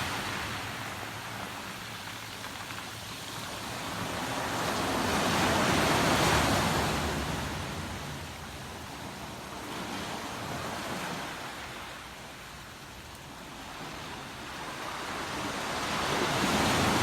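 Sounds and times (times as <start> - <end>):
ocean waves washing onto shore: 0.0 - 17.0.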